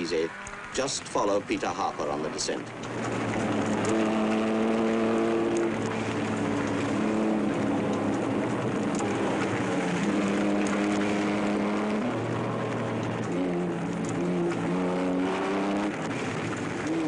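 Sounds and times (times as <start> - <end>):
rally car engine at high revs: 0.0 - 1.1, 1.8 - 17.0
road and tyre noise: 0.0 - 17.0.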